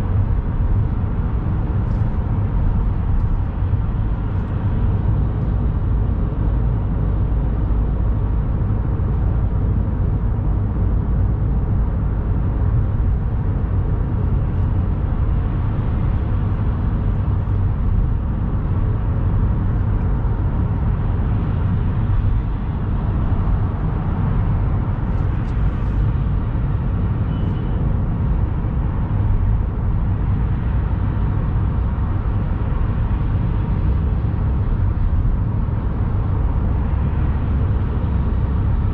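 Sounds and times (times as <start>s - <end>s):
car road noise from cabin: 0.0s - 38.9s.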